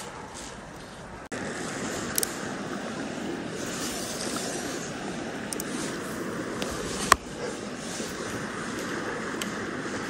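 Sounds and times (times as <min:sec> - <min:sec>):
creek water flowing: 0:00.0 - 0:10.0.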